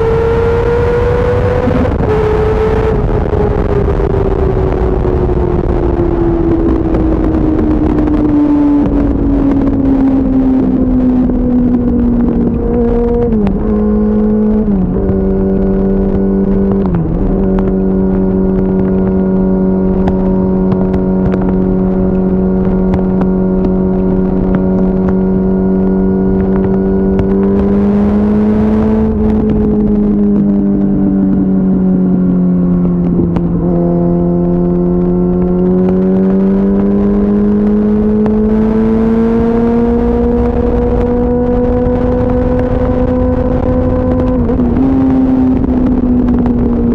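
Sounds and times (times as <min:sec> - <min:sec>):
motorcycle engine at high revs: 0:00.0 - 0:46.9
wind rushing: 0:00.0 - 0:46.9.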